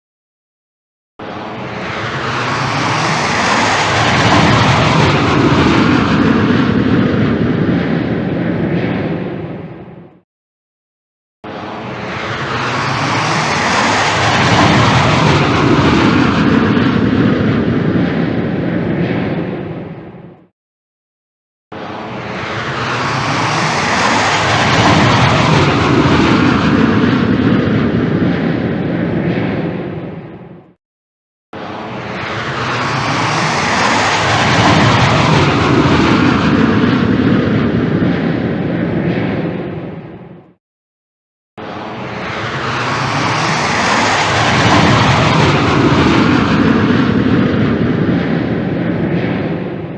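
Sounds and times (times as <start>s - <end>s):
jet engine rushing: 1.2s - 10.2s, 11.4s - 20.5s, 21.7s - 30.8s, 31.6s - 40.5s, 41.6s - 49.9s.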